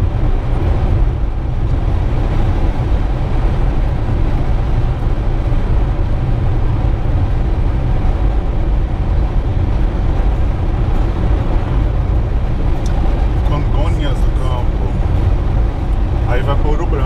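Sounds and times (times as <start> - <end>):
car cabin road and engine rumble: 0.0 - 17.0.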